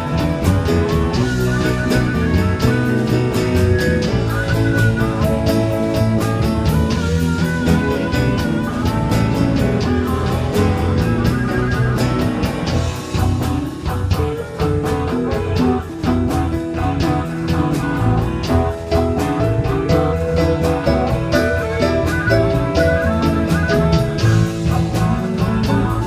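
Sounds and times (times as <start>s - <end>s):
cymbal beat: 0.0s - 26.0s
electric guitar: 0.0s - 26.0s
live blues band: 0.0s - 26.0s.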